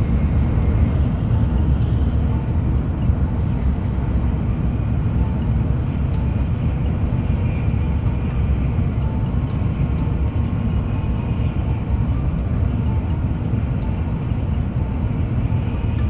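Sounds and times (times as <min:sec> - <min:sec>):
train cabin rumble: 0:00.0 - 0:16.0.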